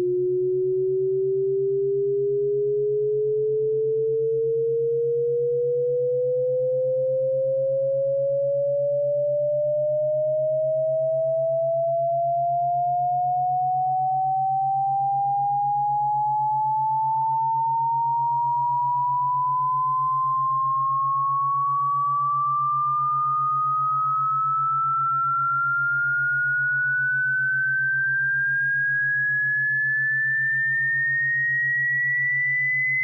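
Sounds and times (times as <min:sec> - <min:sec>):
sine tone sweeping upward: 0:00.0 - 0:33.0.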